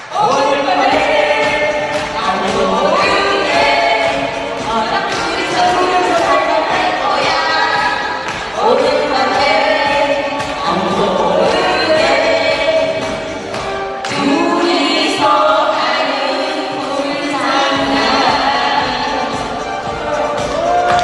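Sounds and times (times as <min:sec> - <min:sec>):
women singing into microphones: 0:00.0 - 0:20.9
amplified band accompaniment: 0:00.0 - 0:21.0.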